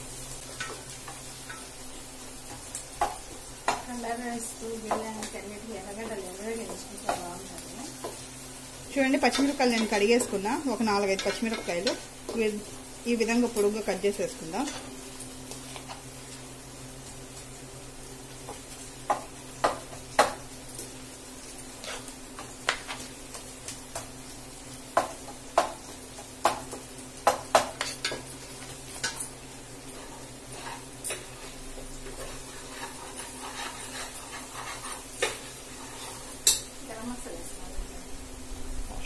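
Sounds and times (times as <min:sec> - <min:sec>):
onions sizzling in a pan: 0:00.0 - 0:39.0.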